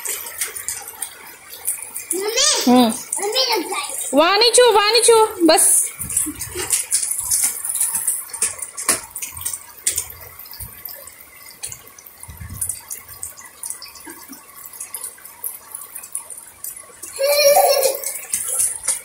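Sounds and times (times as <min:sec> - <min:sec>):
heavy rain on concrete roof: 0:00.0 - 0:19.0
sharp rain taps and splashes: 0:00.0 - 0:19.0.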